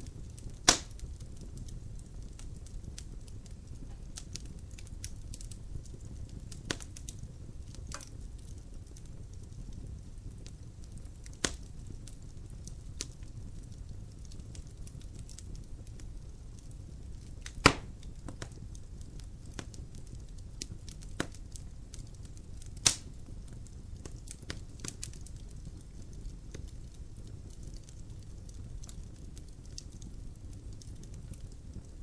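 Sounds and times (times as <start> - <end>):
loud sharp pops from fire: 0.0 - 32.0
wood fire crackling: 0.0 - 32.0.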